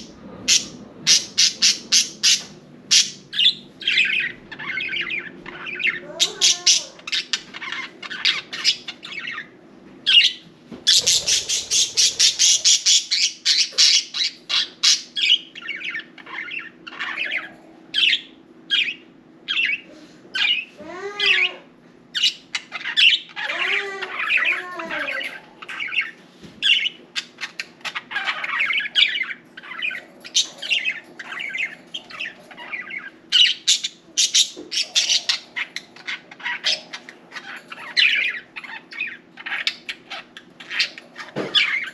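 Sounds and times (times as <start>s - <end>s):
budgerigars chattering and squawking: 0.0s - 21.5s, 22.1s - 41.9s.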